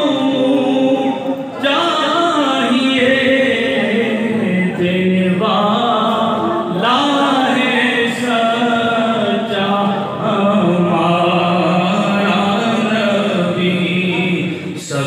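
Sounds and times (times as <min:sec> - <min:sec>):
person chanting unaccompanied: 0:00.0 - 0:15.0.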